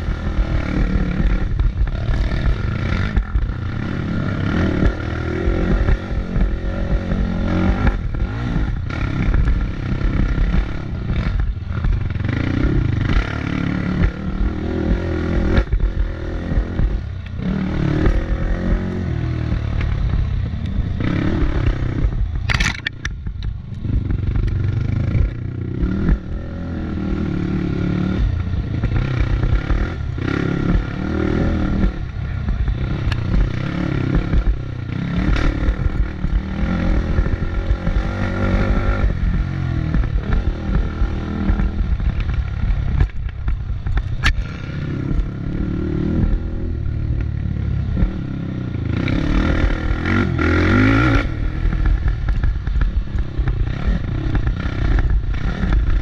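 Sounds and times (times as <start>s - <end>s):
off-road engine revving: 0.0s - 56.0s.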